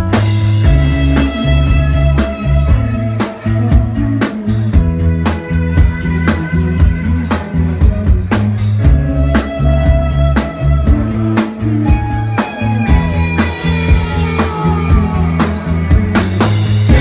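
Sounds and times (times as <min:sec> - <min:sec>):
drum kit hits: 0:00.0 - 0:17.0
rock band playing live: 0:00.0 - 0:17.0.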